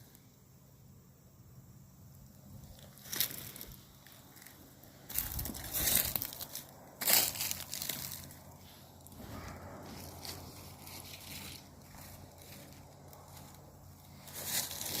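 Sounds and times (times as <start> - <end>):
footsteps crunching dry leaves: 2.6 - 15.0.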